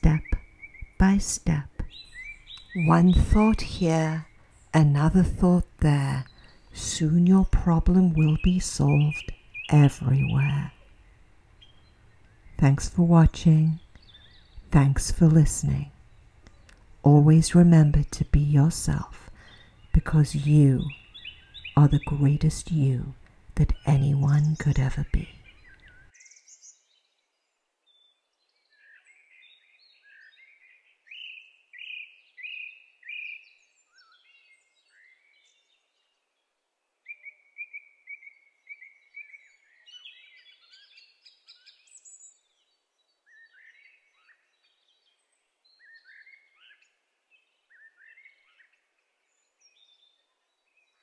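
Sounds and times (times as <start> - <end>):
faint songbirds singing: 0.0 - 51.0.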